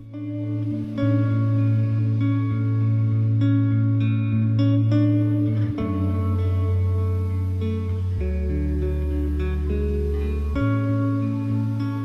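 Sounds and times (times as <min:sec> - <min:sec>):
instrumental music with held chords: 0:00.0 - 0:12.0.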